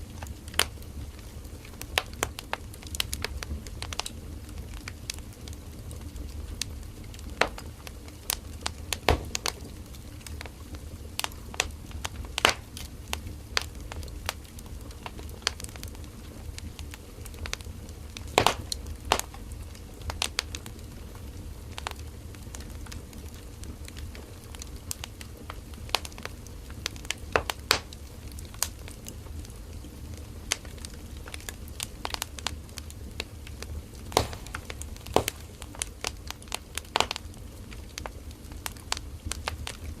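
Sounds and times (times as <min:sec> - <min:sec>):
firewood crackling and popping: 0:00.0 - 0:40.0
low rumble of flames: 0:00.0 - 0:40.0.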